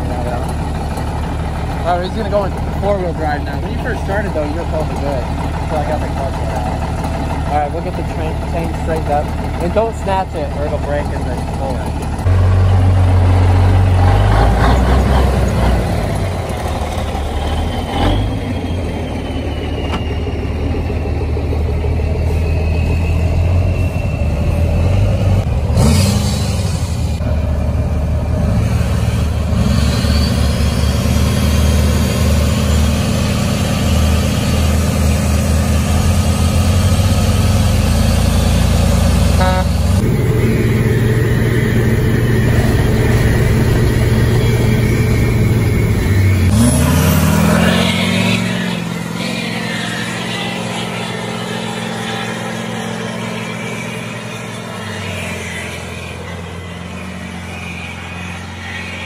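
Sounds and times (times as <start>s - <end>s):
diesel truck engines at full throttle: 0.0s - 59.0s
engine revving: 0.0s - 59.0s.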